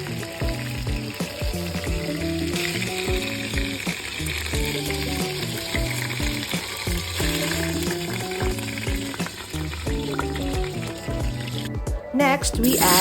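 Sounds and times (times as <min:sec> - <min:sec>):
chicken sizzling in hot oil: 0:00.0 - 0:11.8, 0:12.6 - 0:13.0
background music with steady beat: 0:00.0 - 0:13.0.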